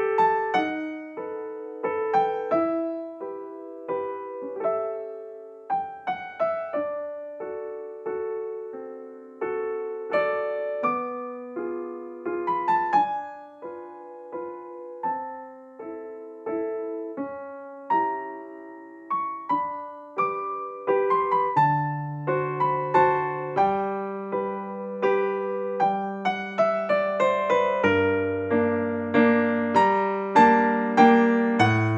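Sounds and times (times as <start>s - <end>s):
slow piano melody: 0.0s - 31.9s.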